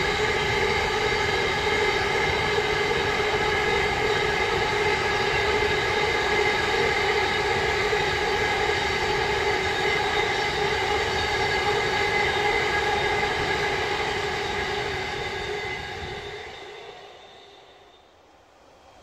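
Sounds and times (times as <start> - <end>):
freight train wheels on rail: 0.0 - 18.1.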